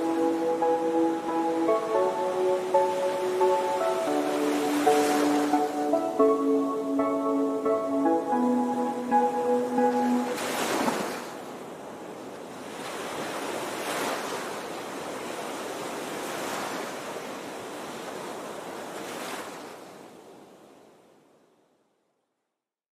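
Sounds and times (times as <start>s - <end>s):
sea surf waves: 0.0s - 21.0s.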